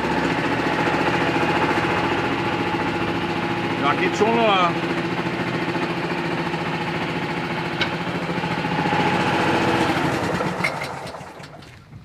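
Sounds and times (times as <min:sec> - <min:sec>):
small engine running: 0:00.0 - 0:11.6.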